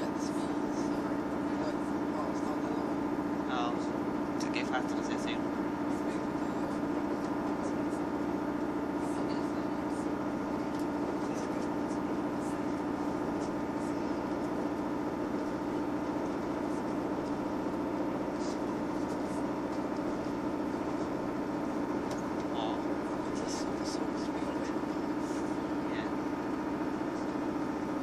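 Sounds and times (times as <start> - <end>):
train engine and wheels droning: 0.0 - 28.0.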